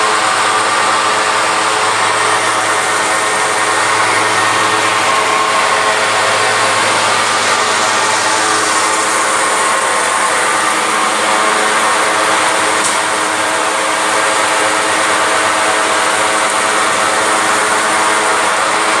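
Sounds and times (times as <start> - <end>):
air blower drone: 0.0 - 19.0
hiss: 0.1 - 19.0.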